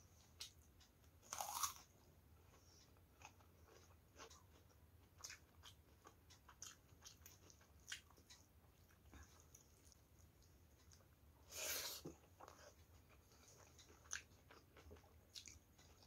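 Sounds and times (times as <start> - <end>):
faint chewing: 0.1 - 16.0.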